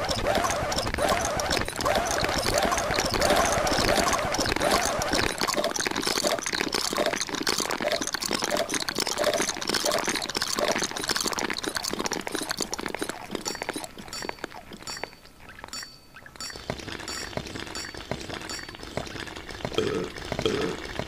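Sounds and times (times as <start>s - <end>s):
jumble of clicks and wet noises: 0.0s - 21.0s.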